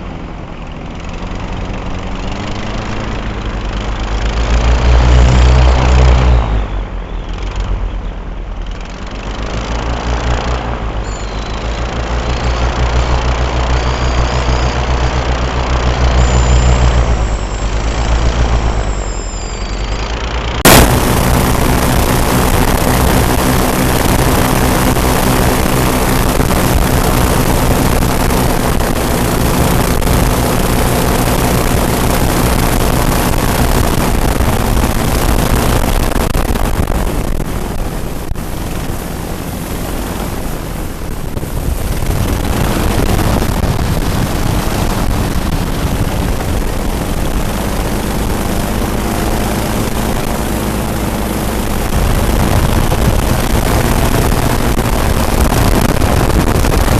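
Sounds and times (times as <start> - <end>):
airboat engines droning: 0.0 - 56.9.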